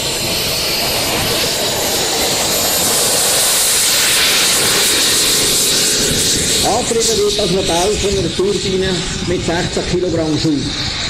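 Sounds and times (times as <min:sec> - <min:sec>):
model jet turbine engine hissing: 0:00.0 - 0:11.0.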